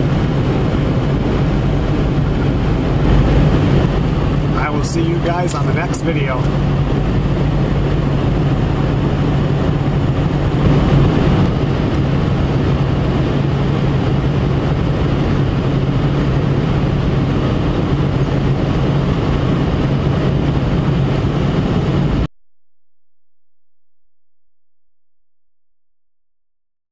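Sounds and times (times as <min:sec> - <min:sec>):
car road and engine noise: 0:00.0 - 0:22.3
low hum: 0:00.0 - 0:22.3.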